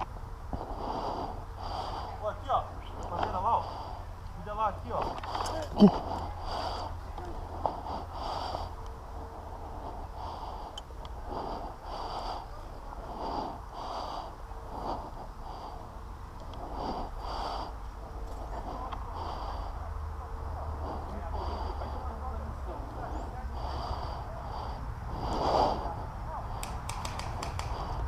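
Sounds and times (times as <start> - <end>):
person breathing hard: 0.0 - 28.0.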